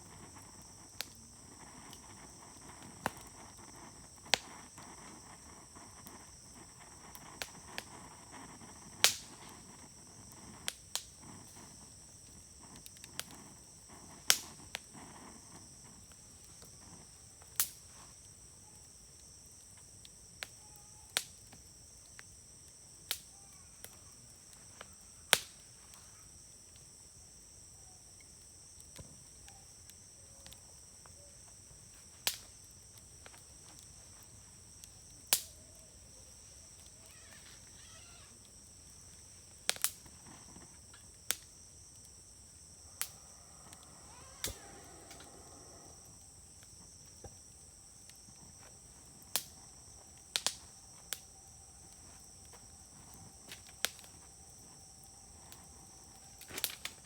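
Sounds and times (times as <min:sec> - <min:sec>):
insects trilling: 0:00.0 - 0:57.0
wood fire hissing and popping: 0:00.0 - 0:57.0.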